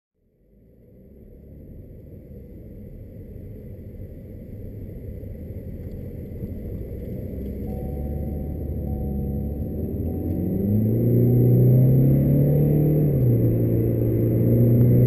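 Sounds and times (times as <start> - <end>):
car engine and road rumble: 0.2 - 15.0.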